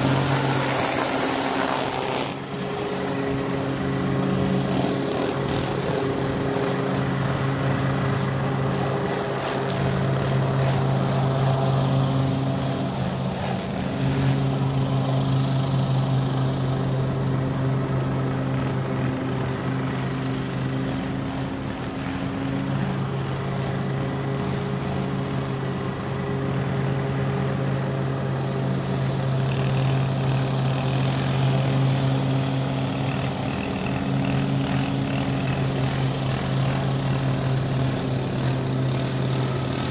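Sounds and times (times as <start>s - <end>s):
lawn mower: 0.0s - 39.9s
string trimmer: 0.0s - 39.9s.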